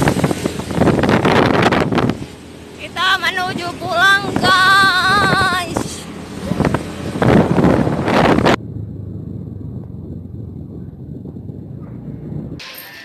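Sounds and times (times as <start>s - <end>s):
wind buffeting microphone: 0.0s - 12.6s
scooter engine running: 0.0s - 12.9s.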